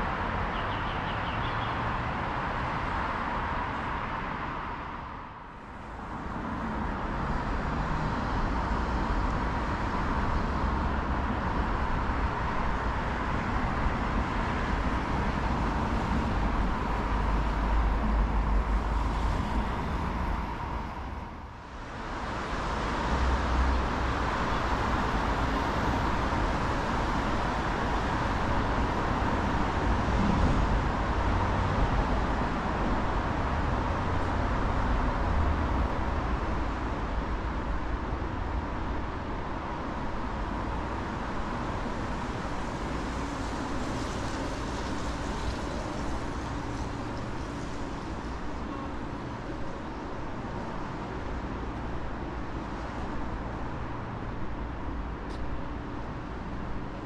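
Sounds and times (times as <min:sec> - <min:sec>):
city road traffic rumble: 0:00.0 - 0:57.0.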